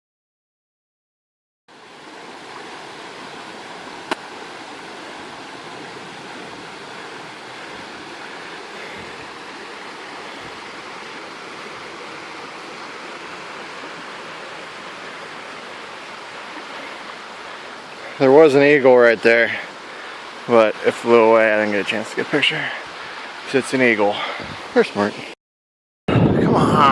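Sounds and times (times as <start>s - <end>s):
flowing water rushing: 1.7s - 25.4s.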